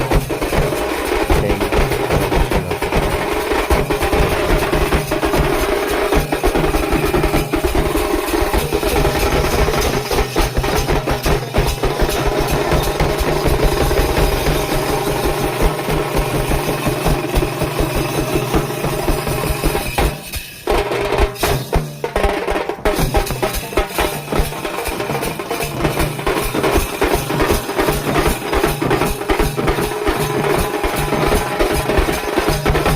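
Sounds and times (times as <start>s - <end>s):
rapid drumming and percussion: 0.0s - 32.9s.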